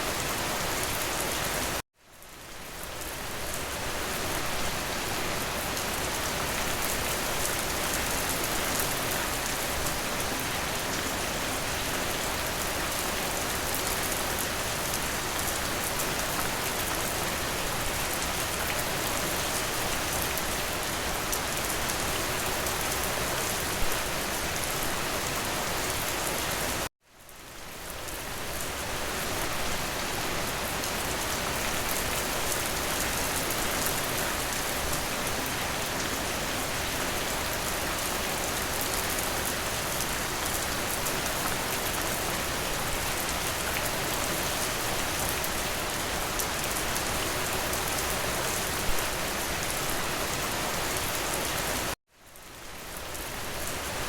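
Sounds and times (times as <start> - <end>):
steady dense rain: 0.0 - 54.0.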